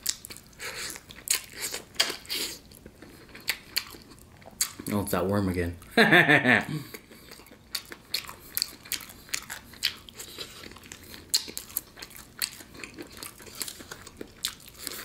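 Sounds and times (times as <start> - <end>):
crunchy chewing: 0.0 - 4.9, 6.9 - 15.0.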